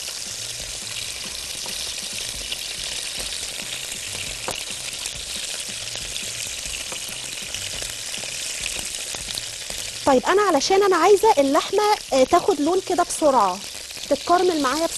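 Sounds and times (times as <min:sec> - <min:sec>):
meat sizzling in oil: 0:00.0 - 0:14.9.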